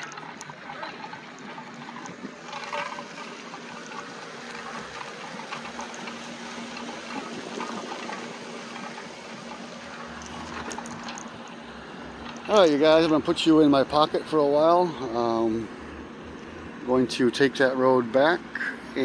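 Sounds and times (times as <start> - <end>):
faint steady hum: 0.0 - 19.0
water lapping: 0.0 - 19.0.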